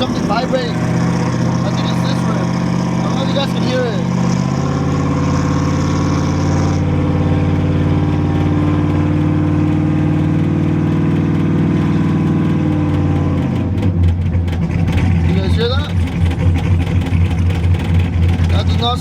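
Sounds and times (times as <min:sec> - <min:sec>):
truck driving at speed: 0:00.0 - 0:19.0.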